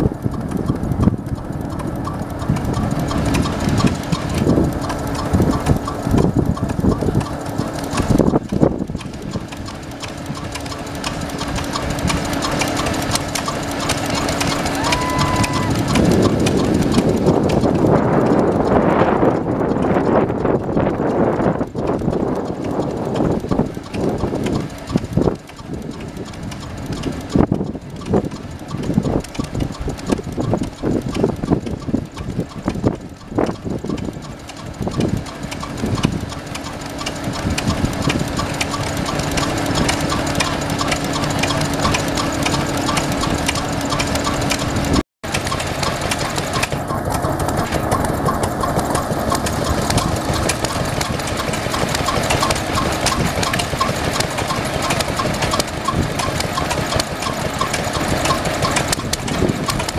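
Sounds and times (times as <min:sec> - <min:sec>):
knocks and clatter: 0:00.0 - 0:59.9
stationary engines running: 0:00.0 - 0:59.9.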